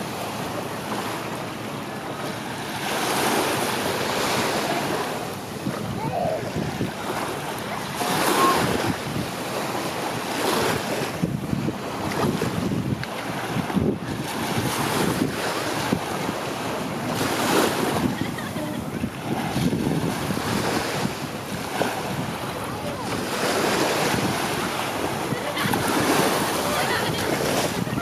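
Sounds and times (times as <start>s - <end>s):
waves washing ashore: 0.0s - 28.0s
wind buffeting microphone: 3.8s - 28.0s.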